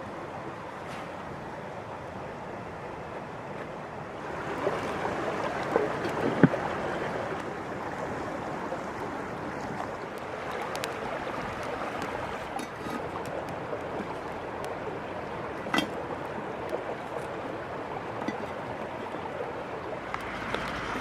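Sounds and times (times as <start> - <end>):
flowing water: 0.0 - 21.0.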